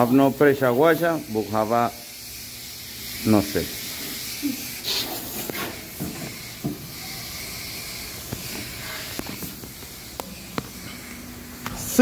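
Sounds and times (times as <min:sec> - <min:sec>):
hose spraying water hiss: 0:00.0 - 0:12.0.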